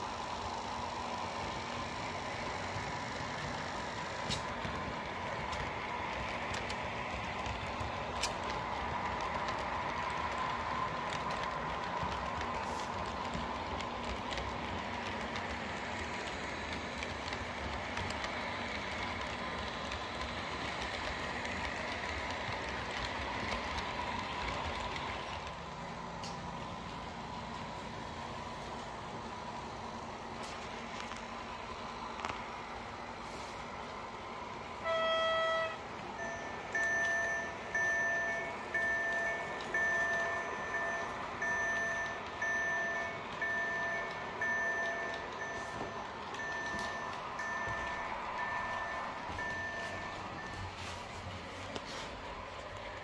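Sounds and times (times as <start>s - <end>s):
wheels clicking on rails: 0.0s - 53.0s.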